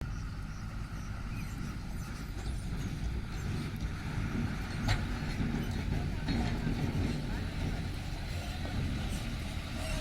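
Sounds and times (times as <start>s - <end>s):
diesel machinery rumbling: 0.0s - 10.0s.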